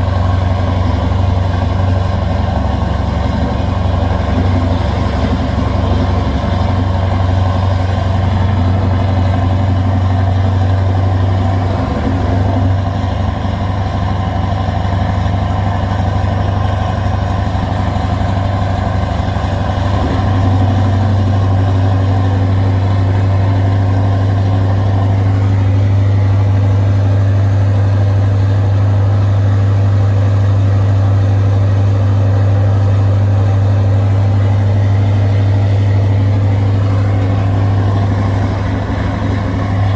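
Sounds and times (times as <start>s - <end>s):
diesel truck engine under heavy load: 0.0s - 39.9s.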